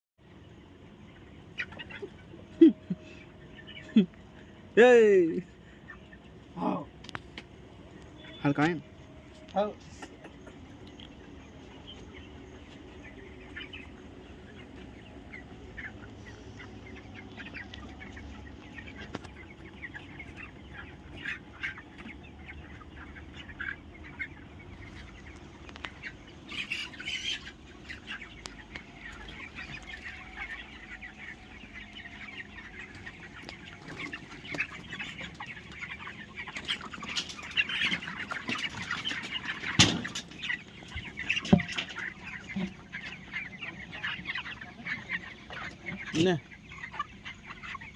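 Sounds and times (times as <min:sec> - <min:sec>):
chickens clucking: 0:00.2 - 0:47.9.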